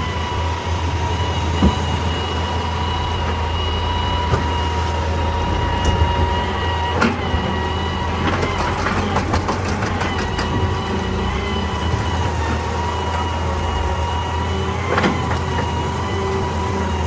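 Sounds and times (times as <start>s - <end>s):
excavator diesel engine: 0.0s - 17.0s
high whine: 0.0s - 17.0s.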